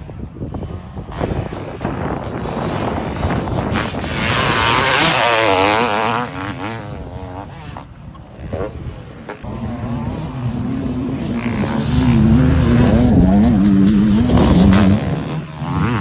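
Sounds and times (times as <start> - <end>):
motocross engine revving: 1.1 - 16.0.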